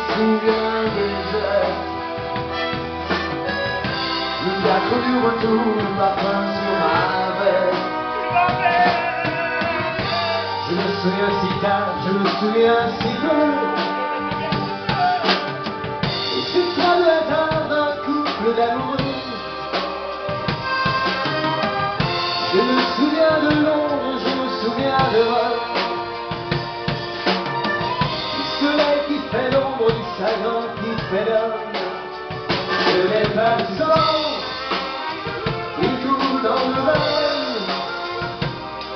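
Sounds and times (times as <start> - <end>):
accordion melody: 0.0 - 38.9
drum kit beat: 0.0 - 38.9
keyboard melody: 0.0 - 38.9.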